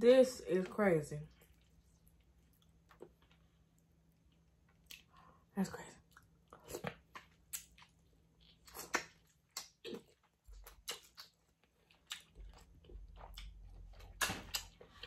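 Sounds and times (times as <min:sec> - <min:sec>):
chewing and mouth smacking: 0:01.3 - 0:05.2, 0:06.1 - 0:15.0.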